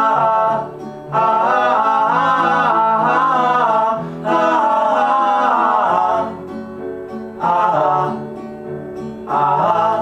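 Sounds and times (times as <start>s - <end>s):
wordless singing: 0.0s - 6.5s, 7.3s - 8.3s, 9.2s - 10.0s
plucked string accompaniment: 0.0s - 10.0s.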